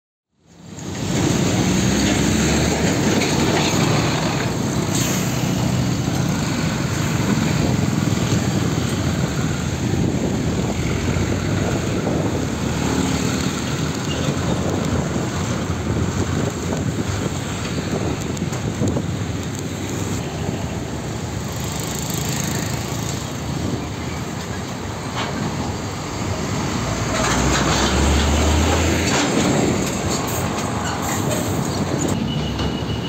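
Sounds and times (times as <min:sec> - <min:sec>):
road traffic noise: 0:00.3 - 0:33.0
truck diesel engine passing: 0:00.8 - 0:18.9, 0:20.1 - 0:33.0.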